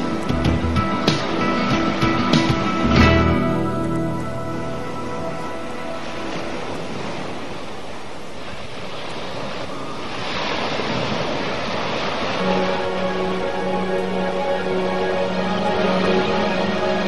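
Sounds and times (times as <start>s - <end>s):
ocean surf washing onto beach: 0.0s - 17.0s.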